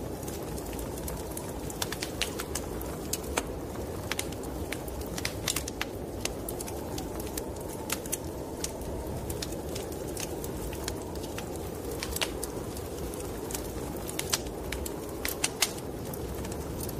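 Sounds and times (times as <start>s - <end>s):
snowstorm wind rushing: 0.0s - 16.9s
wood fire crackling and popping: 0.0s - 16.9s.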